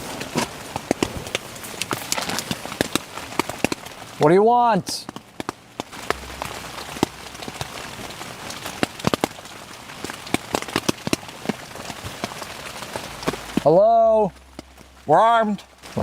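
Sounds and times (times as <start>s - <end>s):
faint steady hiss: 0.0s - 16.0s
water drops tapping on tent fabric: 0.2s - 16.0s.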